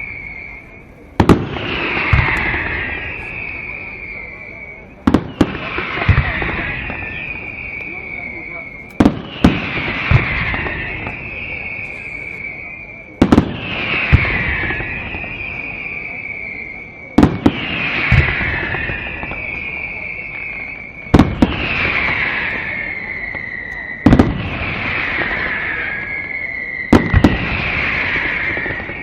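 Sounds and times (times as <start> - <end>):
fireworks crackling hiss: 0.0 - 29.0.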